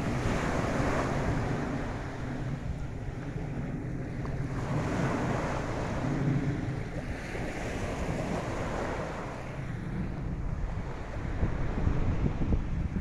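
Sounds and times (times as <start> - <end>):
small waves breaking on beach: 0.0 - 12.5
wind buffeting microphone: 0.0 - 13.0.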